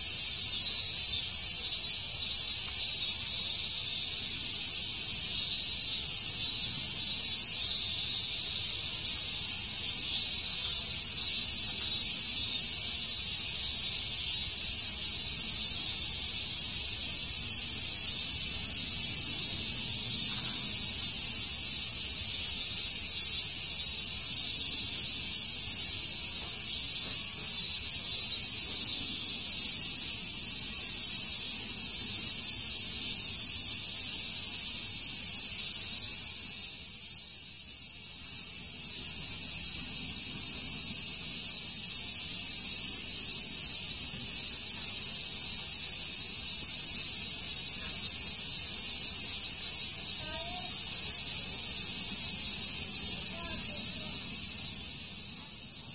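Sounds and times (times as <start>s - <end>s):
cicadas chorus: 0.0s - 55.9s.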